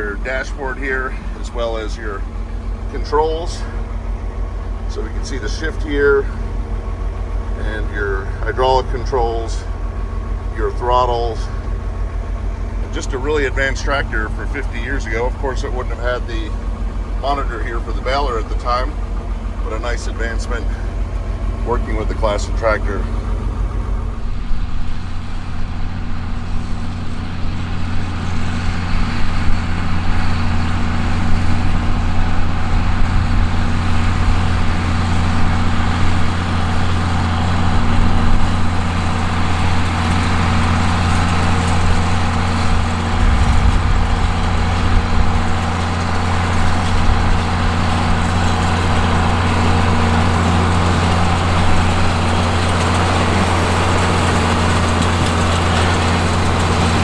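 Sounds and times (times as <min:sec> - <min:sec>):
tractor diesel engine droning: 0:00.0 - 0:57.0.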